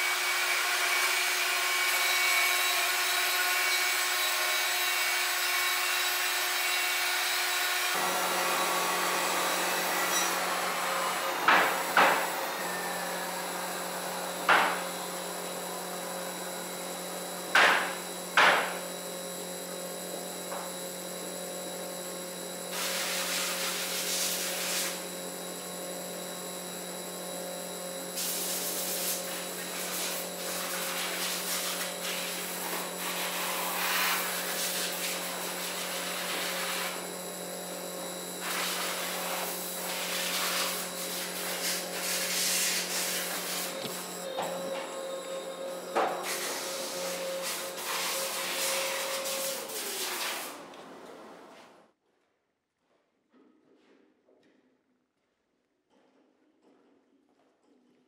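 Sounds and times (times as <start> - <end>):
sawmill machinery humming: 0.0 - 51.8.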